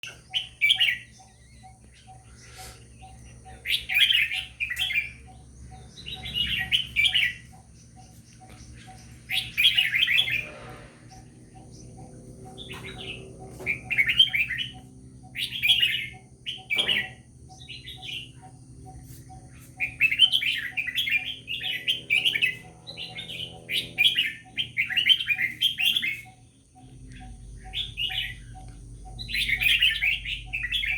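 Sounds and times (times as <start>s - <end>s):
bulbul singing: 0.0s - 30.9s.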